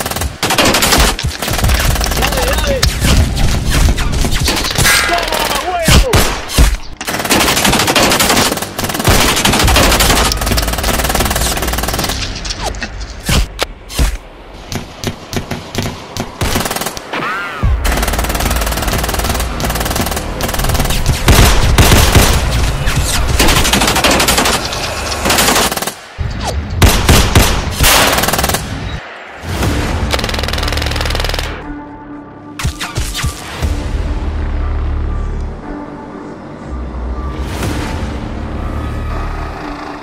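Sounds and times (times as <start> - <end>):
gunshots and bursts: 0.0 - 31.7, 32.6 - 33.5.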